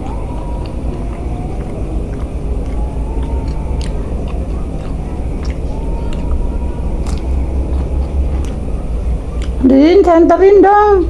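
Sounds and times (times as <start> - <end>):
crunchy chewing of cabbage leaf: 0.0 - 9.7
low rumble: 0.0 - 11.0.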